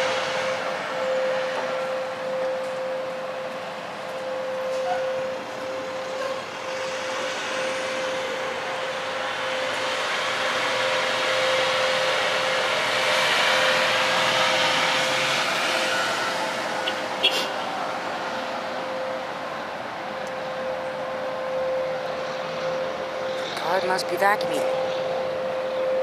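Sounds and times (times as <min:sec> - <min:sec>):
loud whooshing drone with hum: 0:00.0 - 0:26.0.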